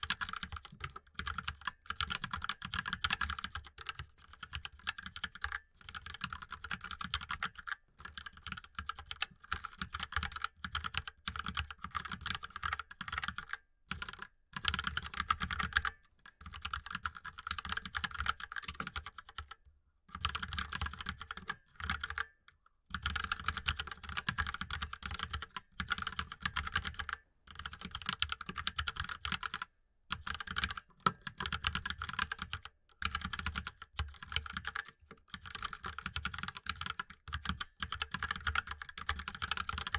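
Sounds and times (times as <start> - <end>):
fast mechanical keyboard typing: 0.0 - 22.3, 22.9 - 39.9.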